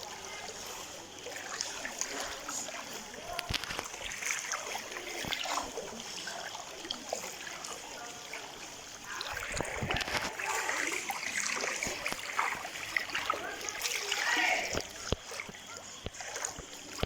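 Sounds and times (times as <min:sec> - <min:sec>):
floodwater splashing and trickling: 0:00.0 - 0:17.0.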